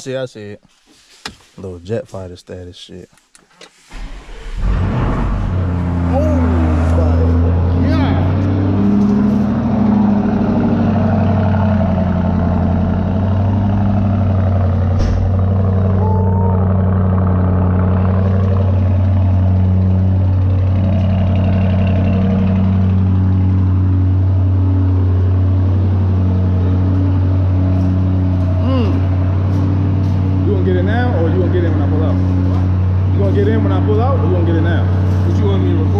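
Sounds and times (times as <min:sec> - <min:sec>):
car engine idling deeply: 0:04.2 - 0:35.9.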